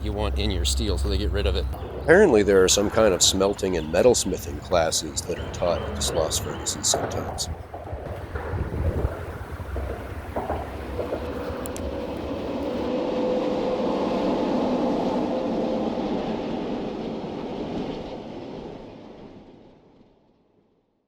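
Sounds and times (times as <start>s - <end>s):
steady rumbling noise: 0.0s - 20.5s.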